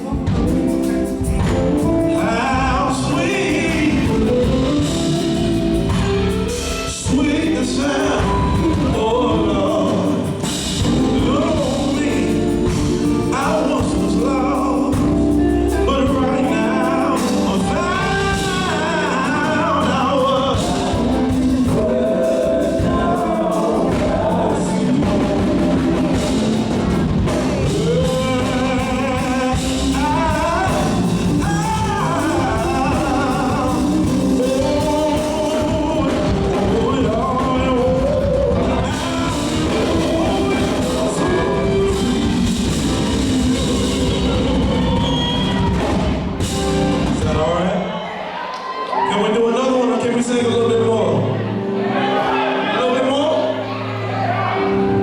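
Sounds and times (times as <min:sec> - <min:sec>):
instrumental backing: 0:00.0 - 0:48.2
gospel group singing: 0:00.0 - 0:48.6, 0:50.4 - 0:55.0.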